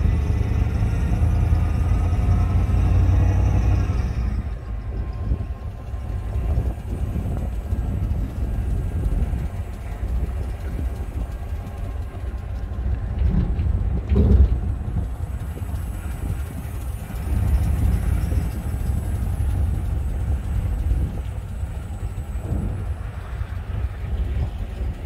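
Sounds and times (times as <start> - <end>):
vehicle bump: 0.0 - 25.0
vehicle rumbling along street: 0.0 - 25.0.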